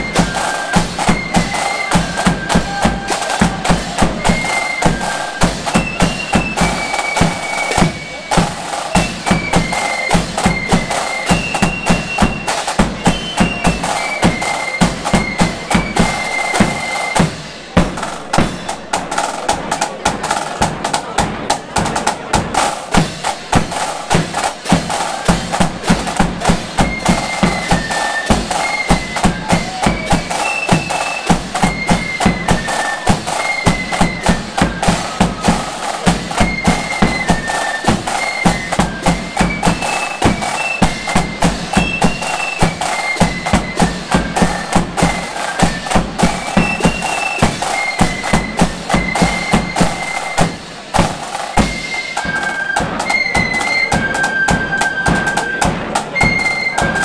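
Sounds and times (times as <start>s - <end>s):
flutes playing melody: 0.0s - 57.0s
rapid snare drum: 0.0s - 57.0s.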